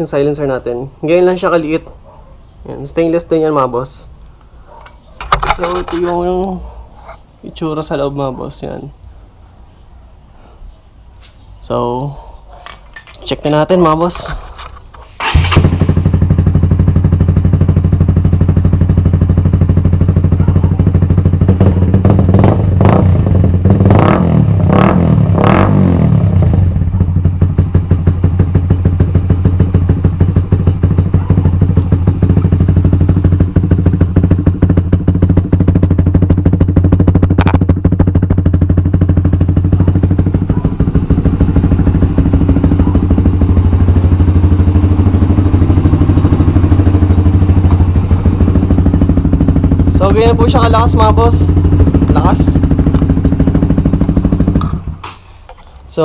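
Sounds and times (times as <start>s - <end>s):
motorcycle engine revving and idling: 4.8s - 8.8s, 15.2s - 56.0s.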